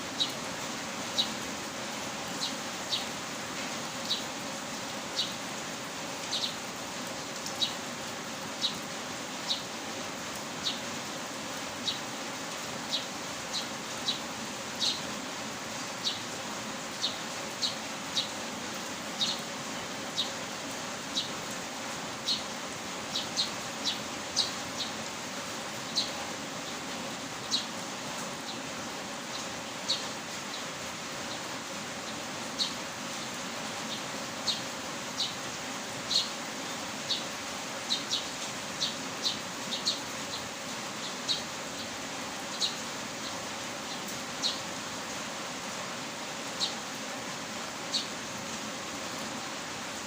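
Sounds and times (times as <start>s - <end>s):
heavy rain hissing: 0.0s - 50.0s.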